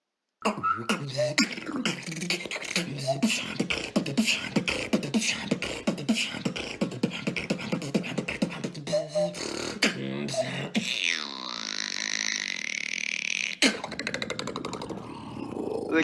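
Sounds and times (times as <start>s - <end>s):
beatboxing: 0.4s - 16.0s.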